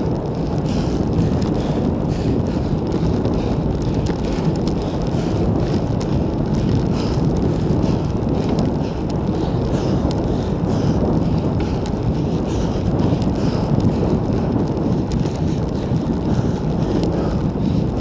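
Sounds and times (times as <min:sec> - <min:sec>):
wind buffeting microphone: 0:00.0 - 0:18.0
faint ticks: 0:00.2 - 0:18.0.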